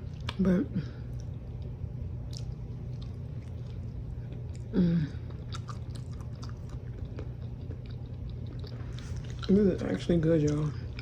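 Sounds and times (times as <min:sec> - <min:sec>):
close-up chewing with wet smacks: 0:01.1 - 0:04.7, 0:05.3 - 0:11.0.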